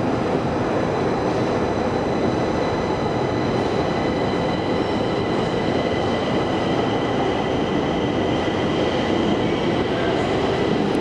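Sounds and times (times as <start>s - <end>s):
metro train running: 0.0s - 11.0s.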